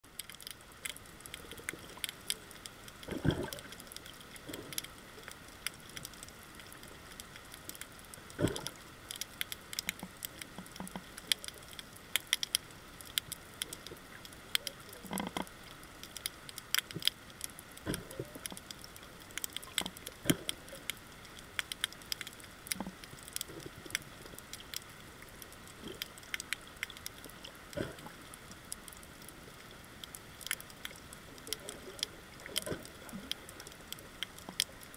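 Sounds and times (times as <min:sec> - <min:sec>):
snapping shrimp crackle: 0:00.1 - 0:34.9.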